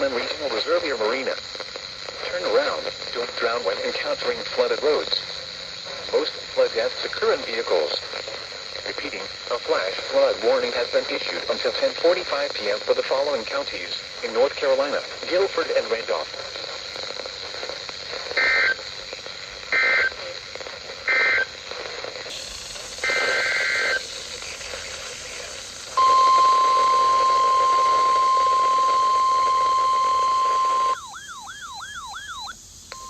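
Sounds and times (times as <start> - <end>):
screeching data bursts: 0.0 - 33.0.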